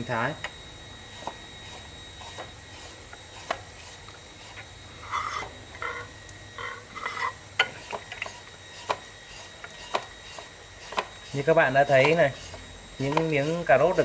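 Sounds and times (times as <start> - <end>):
blade scraping cuts: 1.1 - 14.0.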